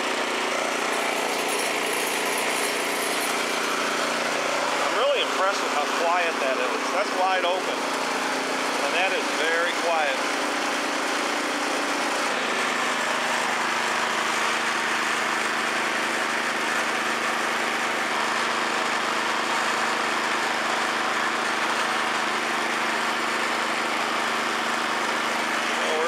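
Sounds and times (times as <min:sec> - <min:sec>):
snowblower engine running: 0:00.0 - 0:26.0.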